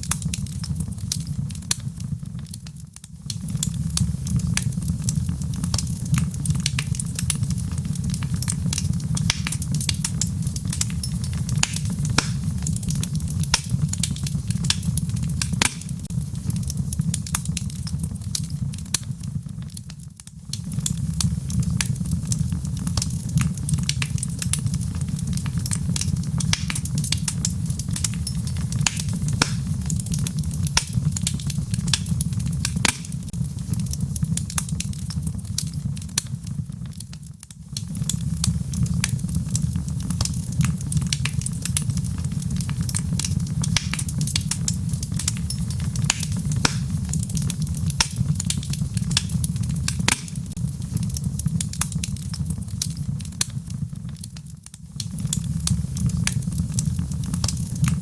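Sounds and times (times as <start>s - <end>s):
fire flame rumble: 0.0s - 58.0s
logs crackling and popping: 0.0s - 58.0s.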